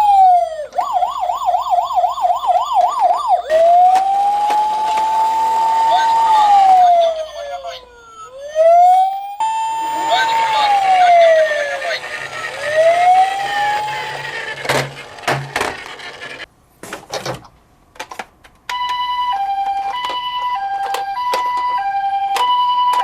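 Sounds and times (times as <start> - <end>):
two-tone hi-lo siren: 0.0 - 14.7, 18.8 - 23.0
wailing siren: 0.0 - 15.0, 18.8 - 23.0.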